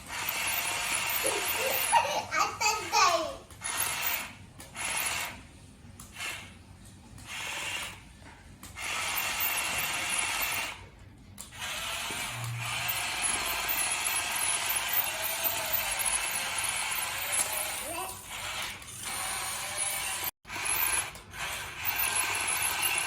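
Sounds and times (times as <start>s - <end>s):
toy electric motors rattling: 0.0s - 6.6s, 7.2s - 8.0s, 8.7s - 23.0s.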